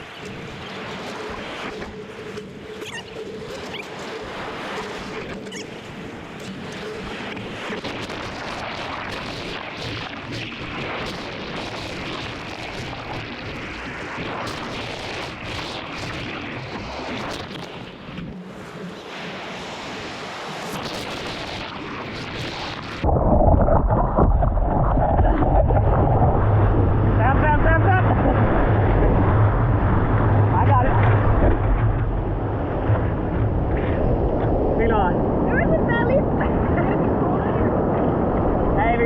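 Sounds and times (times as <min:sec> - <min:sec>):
ocean surf: 0:00.0 - 0:39.0
wind buffeting microphone: 0:00.0 - 0:39.0.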